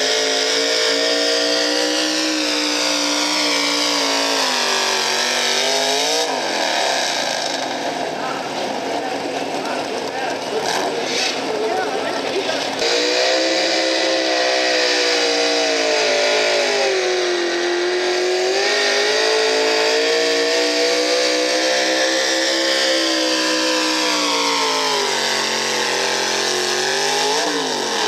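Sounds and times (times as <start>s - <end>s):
engine revving under load: 0.0s - 28.0s.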